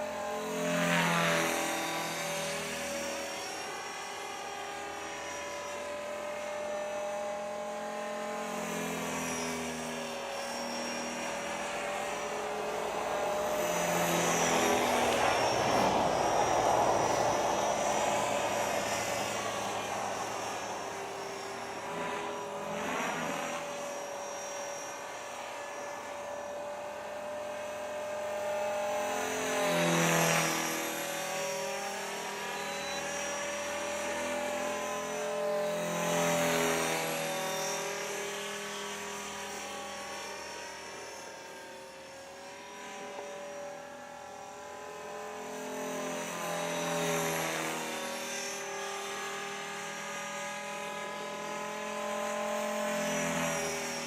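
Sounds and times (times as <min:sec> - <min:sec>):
rc helicopter rotor whine: 0:00.0 - 0:54.0.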